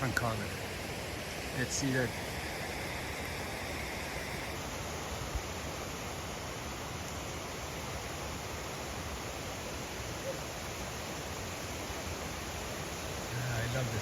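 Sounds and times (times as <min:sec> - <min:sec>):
waterfall and stream rushing: 0:00.0 - 0:14.0.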